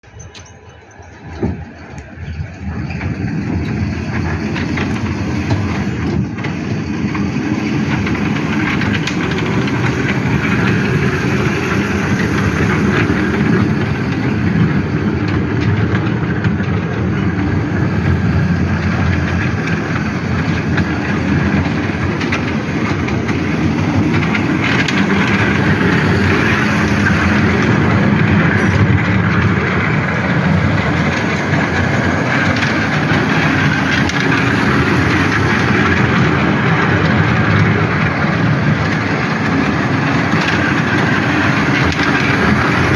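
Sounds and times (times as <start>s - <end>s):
miniature train rumbling on track: 0.0s - 42.9s.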